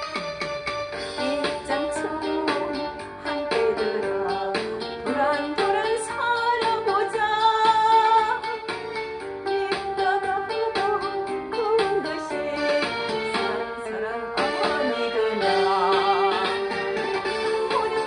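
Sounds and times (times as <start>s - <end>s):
woman singing: 1.2s - 8.7s, 9.5s - 18.0s.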